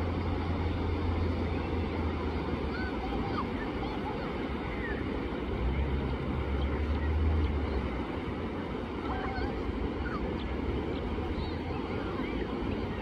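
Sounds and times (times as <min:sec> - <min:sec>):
sea waves washing on beach: 0:00.0 - 0:13.0.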